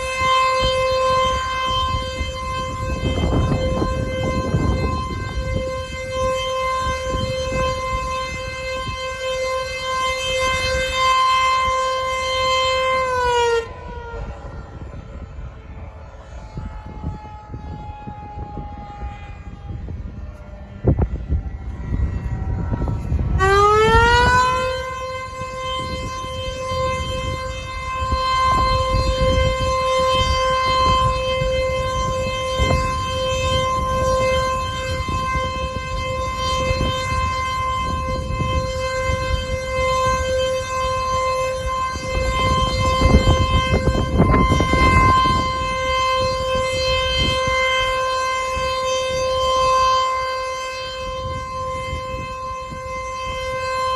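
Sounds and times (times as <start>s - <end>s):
warning siren wailing: 0.0s - 53.9s.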